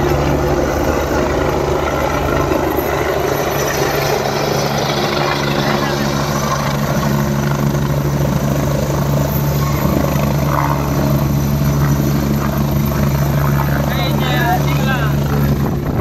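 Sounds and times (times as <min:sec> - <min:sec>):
helicopter hovering: 0:00.0 - 0:16.0.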